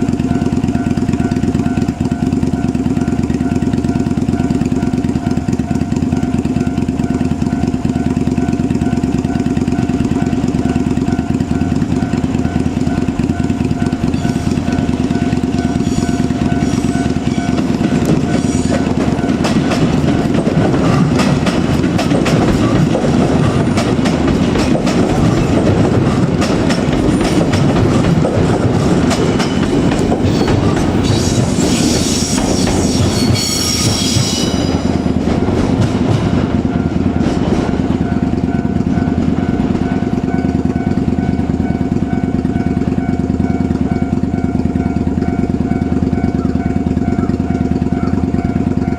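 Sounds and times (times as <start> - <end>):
electric train running past: 0.0 - 48.9
wheels clicking over rail joints: 0.0 - 48.9.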